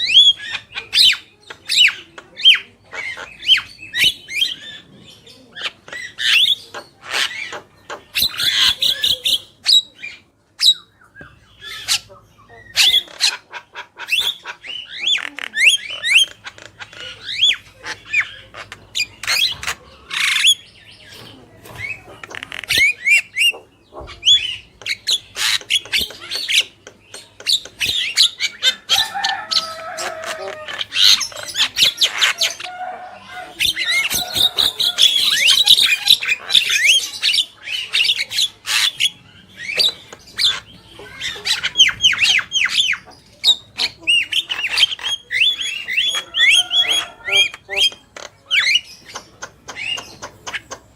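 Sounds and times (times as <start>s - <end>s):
birds clicking chatter: 0.0s - 50.9s
birds squawking: 0.0s - 50.9s
birds whistling calls: 0.0s - 50.9s.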